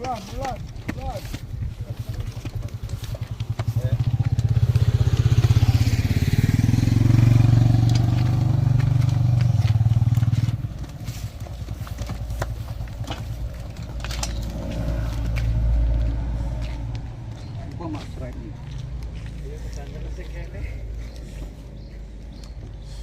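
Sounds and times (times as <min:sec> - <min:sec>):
engine running with low pulsing: 0:00.7 - 0:23.0.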